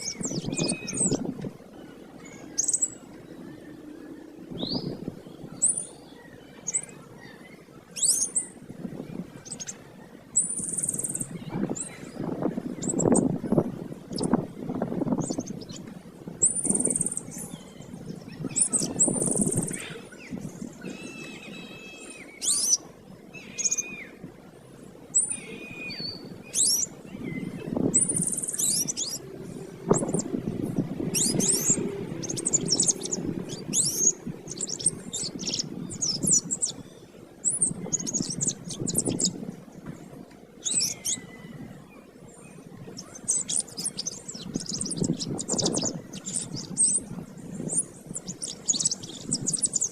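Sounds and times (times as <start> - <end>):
canary singing trills: 0.0 - 8.6, 10.4 - 13.3, 16.4 - 24.2, 25.1 - 39.4, 40.6 - 41.6, 42.4 - 49.9
low background hum: 0.0 - 49.9.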